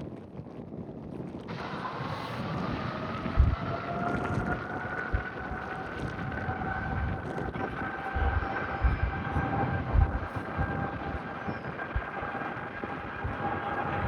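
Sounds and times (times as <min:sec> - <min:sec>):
wind buffeting microphone: 0:00.0 - 0:14.0
jet engines whining: 0:01.5 - 0:14.0
rough rumble: 0:01.5 - 0:14.0.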